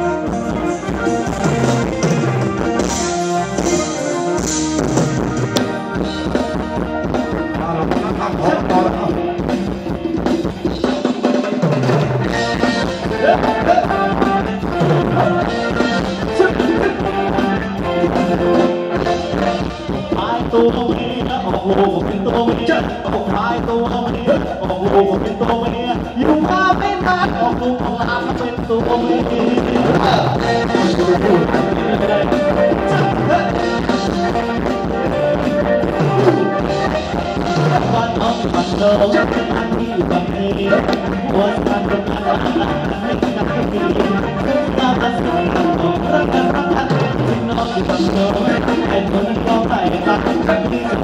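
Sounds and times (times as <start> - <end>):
band playing dance music: 0.0 - 51.0.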